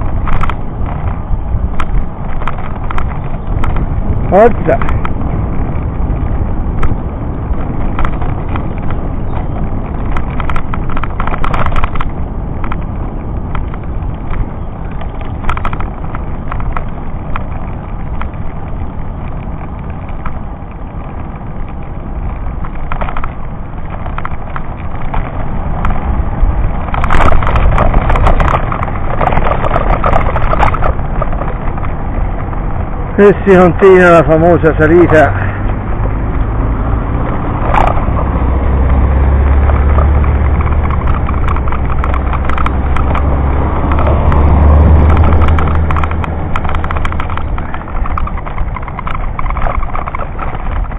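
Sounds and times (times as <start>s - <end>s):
tyre rumble on rough asphalt: 0.0s - 50.9s
wind buffeting microphone: 0.0s - 50.9s.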